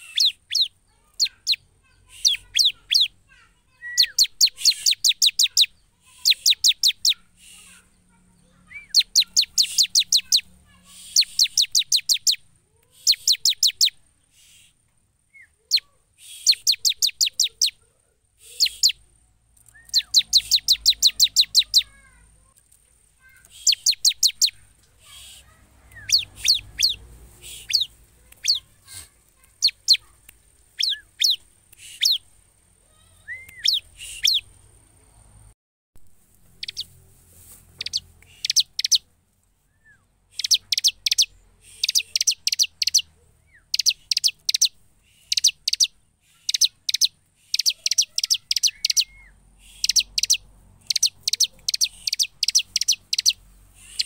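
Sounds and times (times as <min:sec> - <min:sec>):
bird singing rapid chipping notes: 0:00.0 - 0:17.8, 0:18.4 - 0:22.6, 0:23.2 - 0:34.6, 0:36.5 - 0:37.0, 0:37.7 - 0:39.1, 0:39.9 - 0:54.0.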